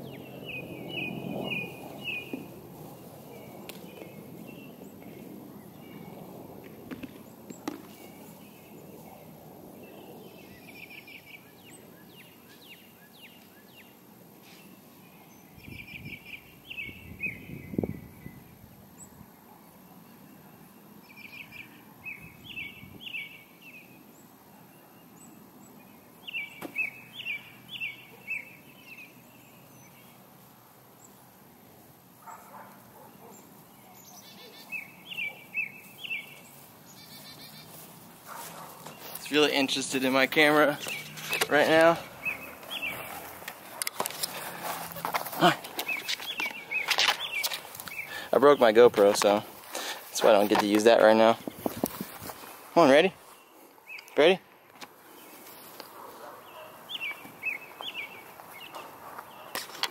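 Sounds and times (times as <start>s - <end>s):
faint outdoor background noise: 0.0s - 59.9s
songbird singing: 0.0s - 59.9s.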